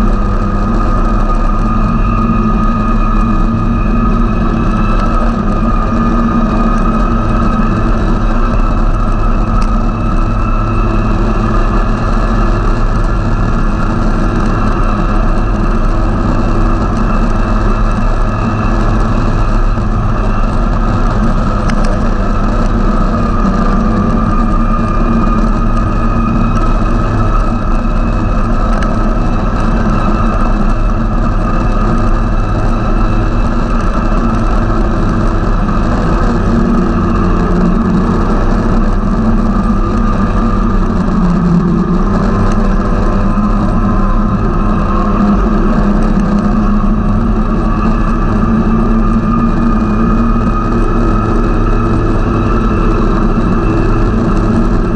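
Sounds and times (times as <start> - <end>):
snowmobile engine rumble and whine: 0.0 - 54.9.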